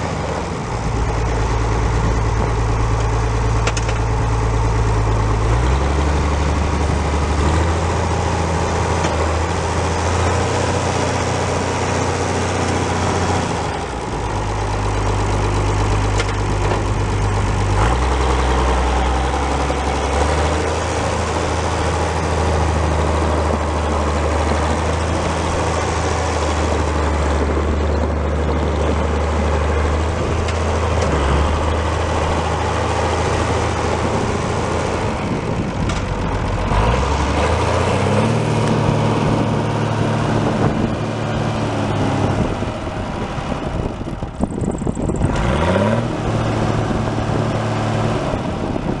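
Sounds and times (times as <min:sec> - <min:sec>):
tractor diesel engine revving: 0:00.0 - 0:49.0.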